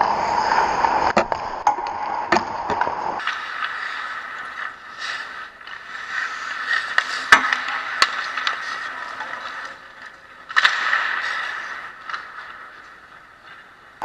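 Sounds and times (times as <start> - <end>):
skates scraping ice: 0.0 - 14.0
stick hitting puck: 0.8 - 13.8.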